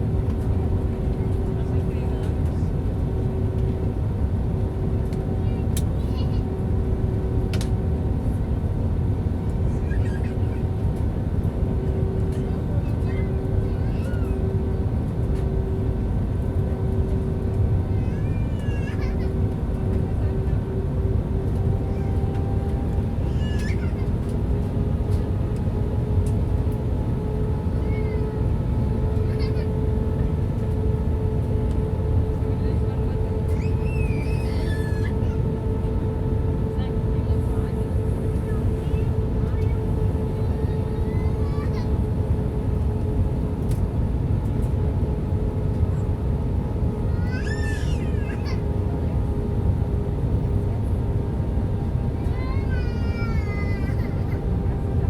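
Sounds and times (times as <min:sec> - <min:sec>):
airplane cabin airflow rumble: 0:00.0 - 0:55.0
engine hum: 0:00.0 - 0:55.0.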